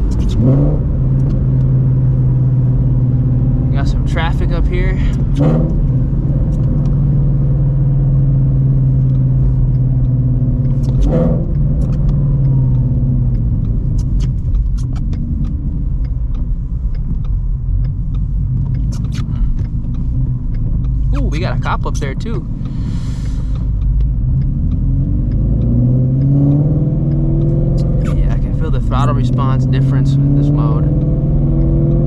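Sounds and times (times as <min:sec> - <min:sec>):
car engine rumbling: 0:00.0 - 0:32.0
sharp ticks: 0:00.0 - 0:32.0.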